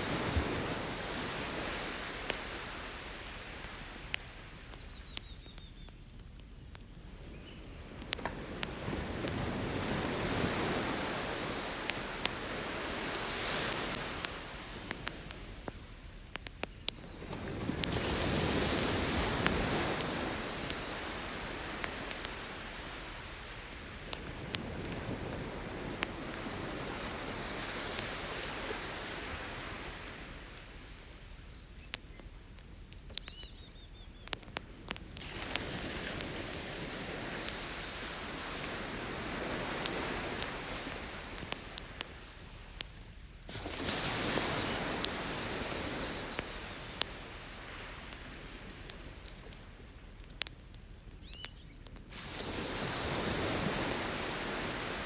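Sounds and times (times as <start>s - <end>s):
campfire wood crackling: 0.0s - 55.0s
ocean waves washing onto beach: 0.0s - 55.0s.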